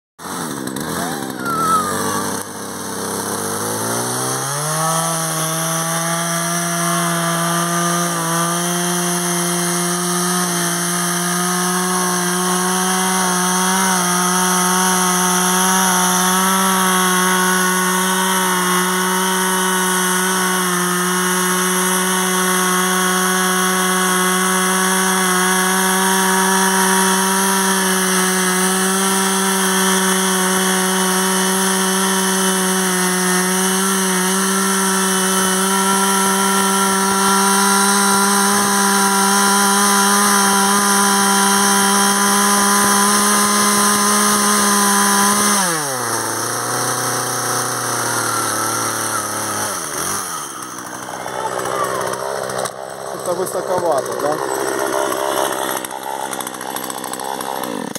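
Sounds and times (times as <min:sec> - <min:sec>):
chainsaw cutting wood: 0:00.2 - 0:57.9.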